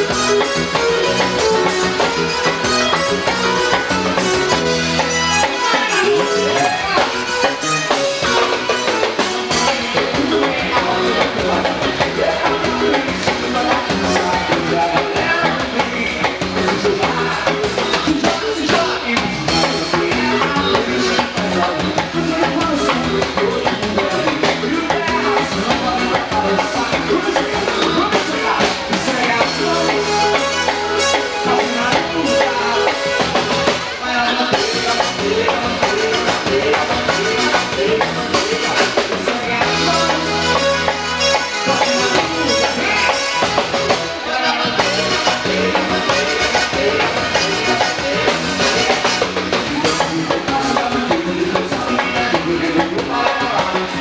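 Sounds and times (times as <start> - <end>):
drum kit: 0.0 - 54.0
electric bass: 0.0 - 54.0
live band playing dance music: 0.0 - 54.0.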